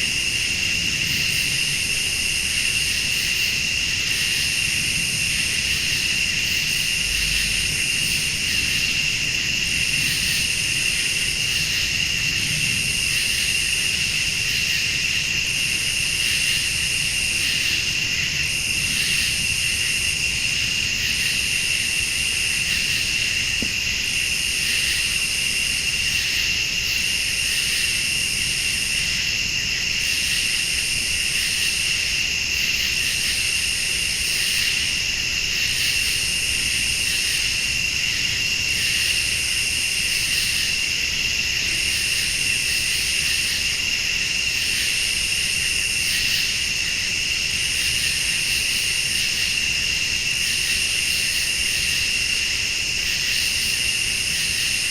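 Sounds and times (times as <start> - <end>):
crickets and insects trilling: 0.0 - 54.9
high-pitched insect call: 0.0 - 54.9.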